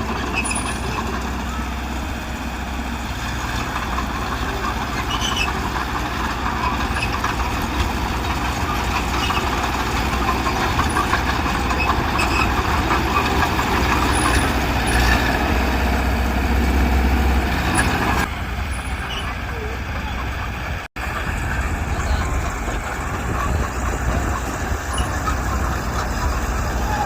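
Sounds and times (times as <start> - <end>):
heavy diesel machinery running: 0.0 - 27.0.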